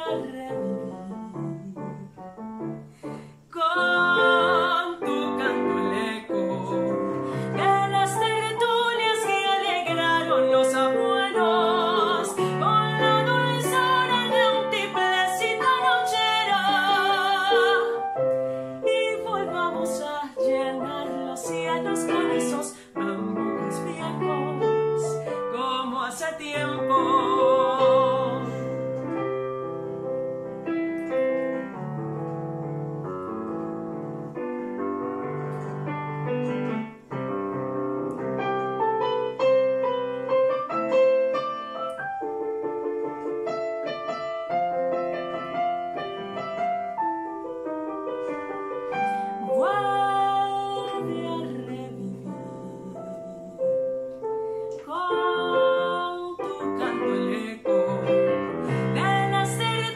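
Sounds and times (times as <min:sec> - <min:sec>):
digital piano playing: 0:00.0 - 0:25.9, 0:26.5 - 0:59.9.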